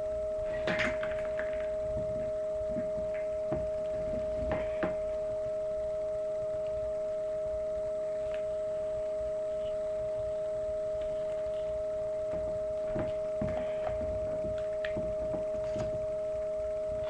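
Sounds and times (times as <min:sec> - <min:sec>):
steady high tone: 0:00.0 - 0:17.0
weak lower tone: 0:00.0 - 0:17.0.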